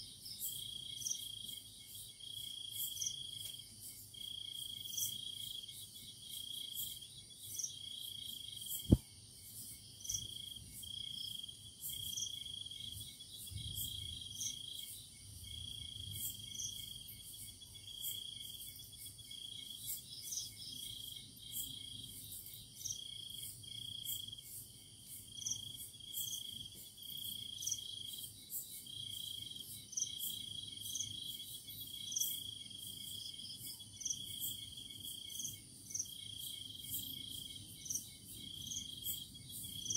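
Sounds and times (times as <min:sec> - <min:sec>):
crickets trilling: 0:00.0 - 0:39.9
high ticking insect calls: 0:00.0 - 0:39.9.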